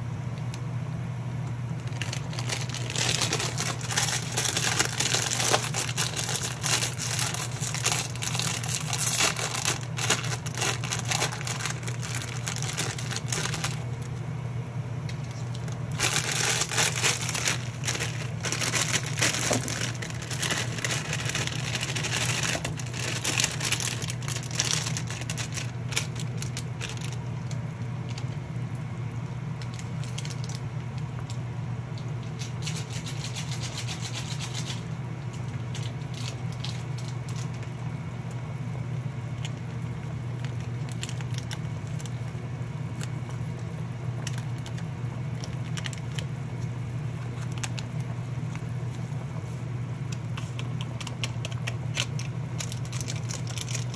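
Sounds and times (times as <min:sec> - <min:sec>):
steady low hum: 0:00.0 - 0:53.9
dense crackling and crunching: 0:01.5 - 0:14.3, 0:15.0 - 0:53.9.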